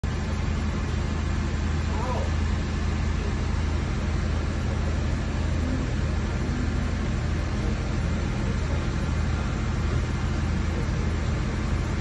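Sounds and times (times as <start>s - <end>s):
railcar engine idling: 0.0s - 12.0s.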